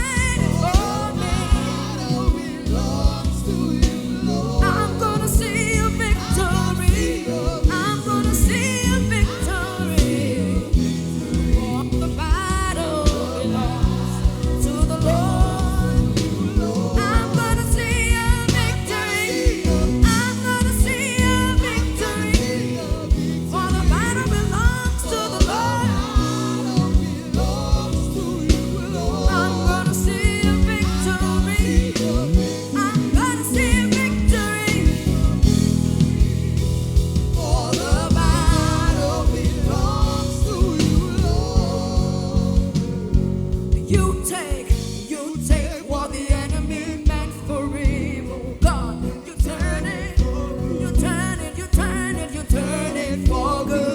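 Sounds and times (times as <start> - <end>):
person singing: 0.0 - 36.5, 37.3 - 53.9
gospel band playing: 0.0 - 53.9.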